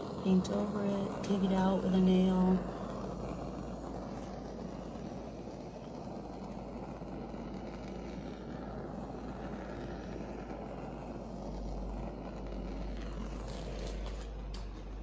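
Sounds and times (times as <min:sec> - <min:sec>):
heat gun blowing: 0:00.0 - 0:15.0.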